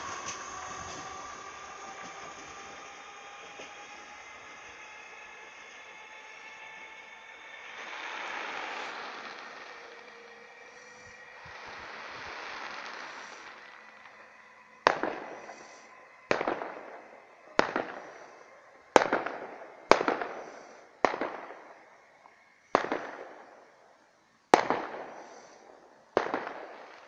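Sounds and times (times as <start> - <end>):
fireworks bangs echoing: 0.0 - 22.0, 22.7 - 23.8, 24.5 - 27.0
rushing noise: 0.0 - 22.4.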